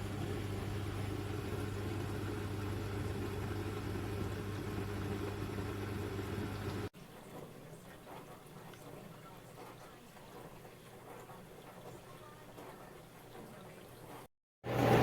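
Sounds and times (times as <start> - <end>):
dishwasher motor hum: 0.0 - 15.0.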